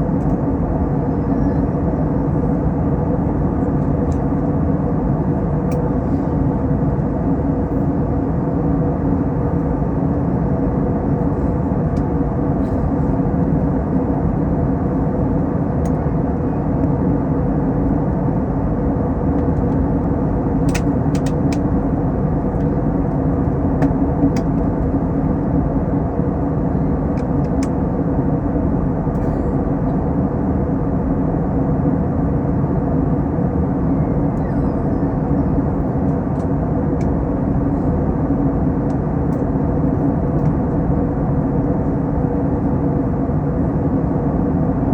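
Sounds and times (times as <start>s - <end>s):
airliner cabin engine drone: 0.0s - 44.9s.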